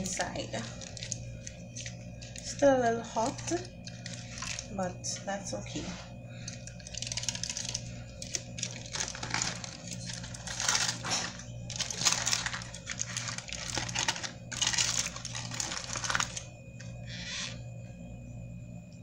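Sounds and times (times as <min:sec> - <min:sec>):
foil crinkling: 0:00.0 - 0:04.7, 0:06.4 - 0:17.6
steady low hum: 0:00.0 - 0:19.0.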